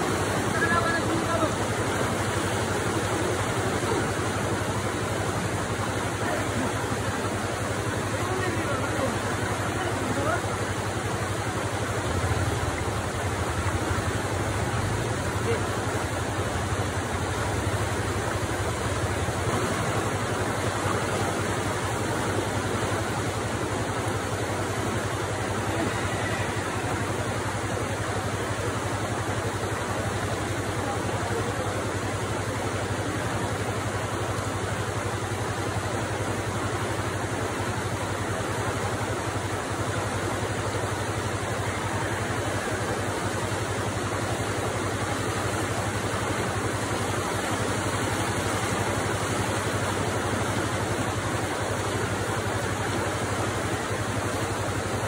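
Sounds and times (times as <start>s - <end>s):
floodwater rushing: 0.0s - 55.0s
low water rumble: 0.0s - 55.0s.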